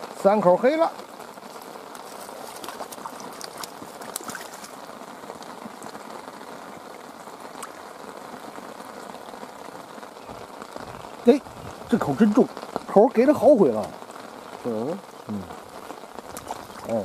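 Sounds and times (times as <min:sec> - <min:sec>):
rain on water surface: 0:00.0 - 0:17.0.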